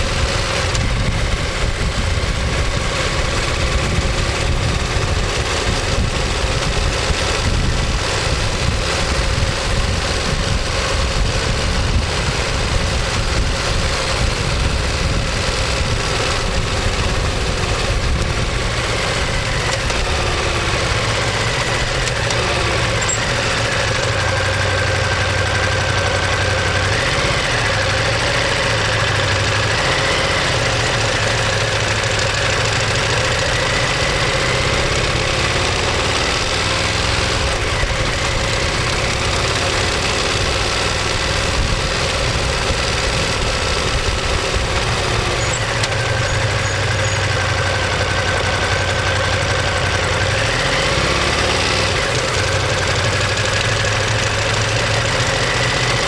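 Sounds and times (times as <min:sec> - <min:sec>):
motorcycle engine and exhaust running: 0:00.0 - 0:56.0.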